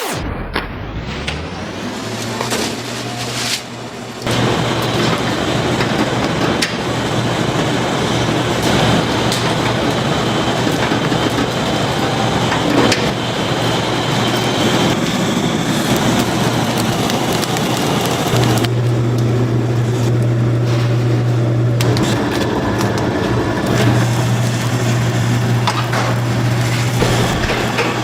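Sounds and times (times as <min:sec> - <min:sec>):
wood fire crackling and popping: 0:00.0 - 0:19.4, 0:21.8 - 0:28.0
fire rushing noise: 0:00.0 - 0:21.2, 0:21.8 - 0:28.0.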